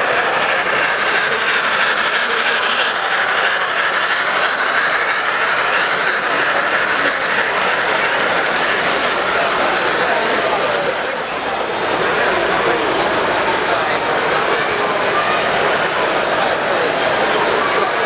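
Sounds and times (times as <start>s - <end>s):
busy hall din: 0.0s - 18.0s.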